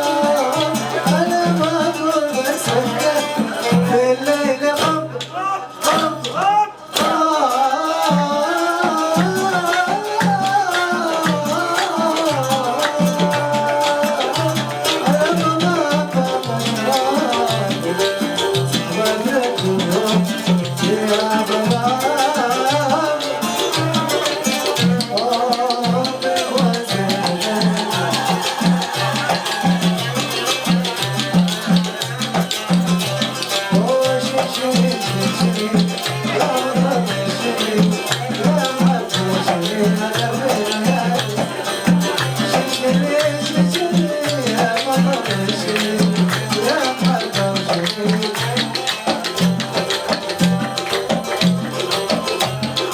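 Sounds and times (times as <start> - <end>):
drum and percussion beat: 0.0 - 52.9.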